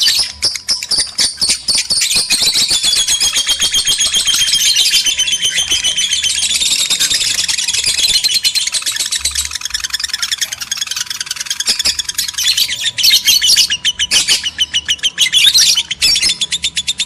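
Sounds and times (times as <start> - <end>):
lovebirds chattering: 0.0 - 17.0.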